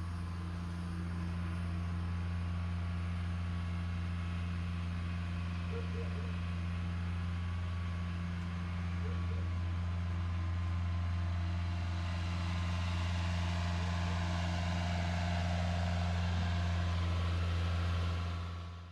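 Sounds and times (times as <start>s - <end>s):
engine running with low hum: 0.0s - 18.9s.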